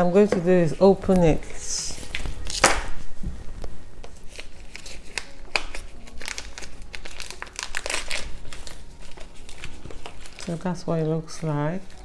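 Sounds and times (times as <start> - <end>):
plastic film crinkling: 0.8 - 12.0.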